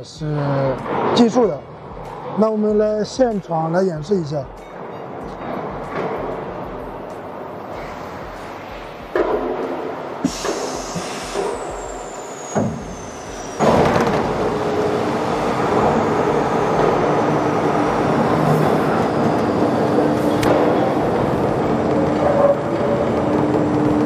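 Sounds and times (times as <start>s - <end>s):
loud machine noise with low hum: 0.0s - 24.0s.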